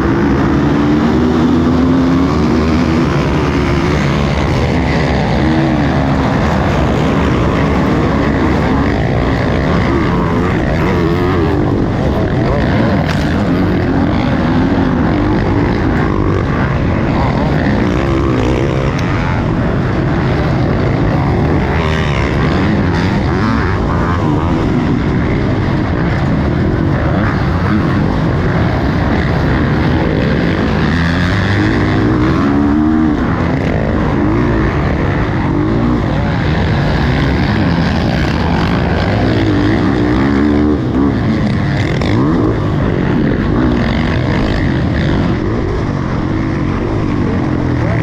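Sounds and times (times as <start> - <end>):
motocross engines revving: 0.0 - 48.0
steady noisy rush: 0.0 - 48.0.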